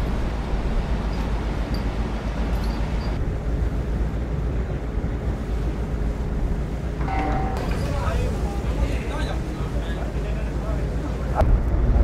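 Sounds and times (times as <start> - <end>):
ship engines rumbling: 0.0 - 11.9.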